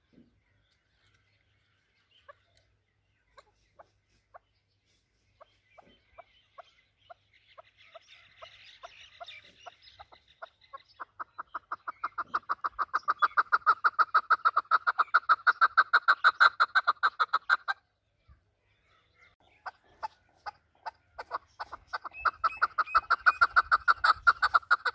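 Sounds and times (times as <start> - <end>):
partridge clucking calls: 2.0 - 17.9, 19.2 - 24.9.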